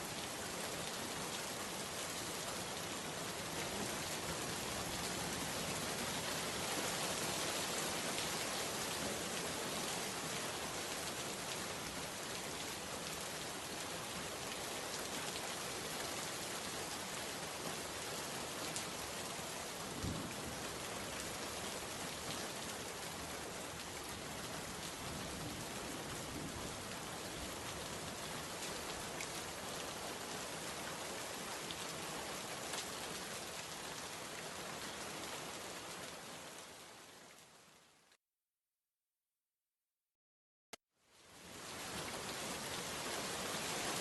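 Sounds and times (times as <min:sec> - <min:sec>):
rain falling: 0:00.0 - 0:38.1, 0:41.0 - 0:44.0.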